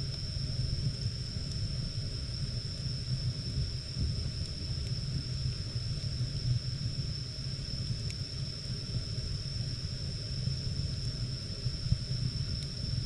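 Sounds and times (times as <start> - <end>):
fire rumbling and crackling: 0.0 - 13.0.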